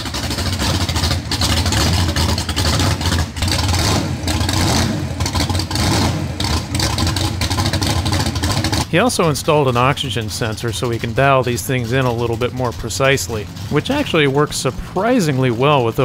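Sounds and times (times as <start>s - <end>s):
drag car engine running: 0.0s - 16.0s.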